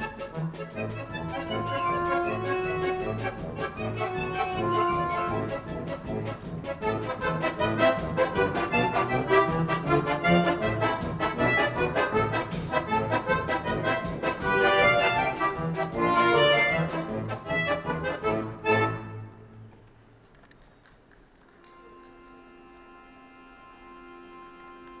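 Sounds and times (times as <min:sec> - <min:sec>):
accordion orchestra playing: 0:00.0 - 0:19.8, 0:21.6 - 0:25.0.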